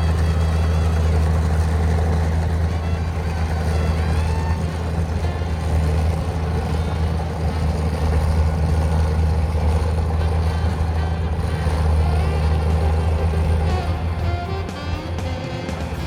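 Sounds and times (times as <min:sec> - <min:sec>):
tractor engine humming: 0:00.0 - 0:16.0.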